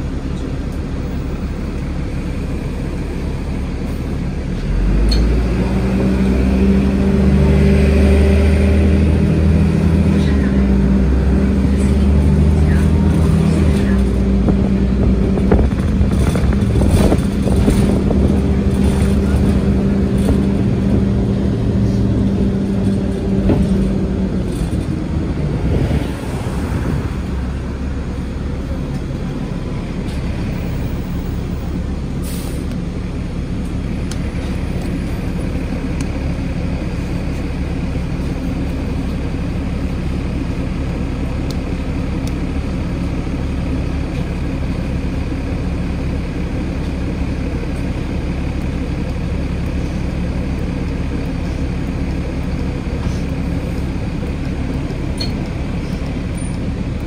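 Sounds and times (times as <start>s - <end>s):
bus drivetrain whine: 0.0s - 57.0s
bus engine idling: 0.0s - 57.0s.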